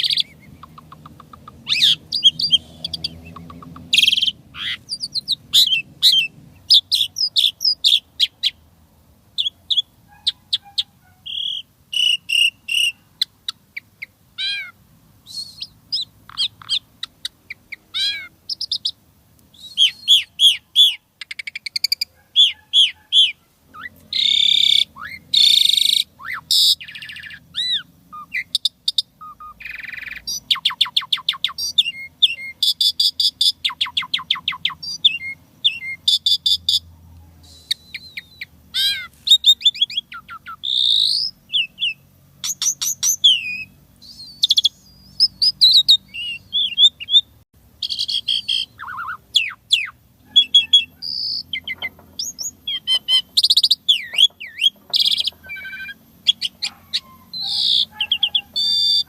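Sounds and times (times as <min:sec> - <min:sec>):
starling singing: 0:00.0 - 0:08.7, 0:09.4 - 0:59.0.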